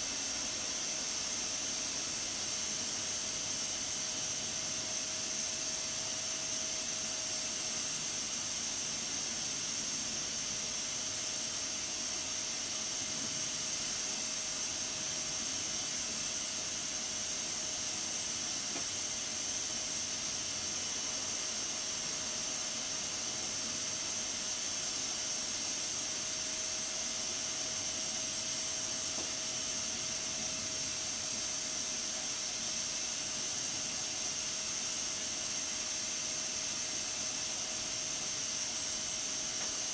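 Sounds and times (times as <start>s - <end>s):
steam hissing from pressure cooker: 0.0s - 39.9s.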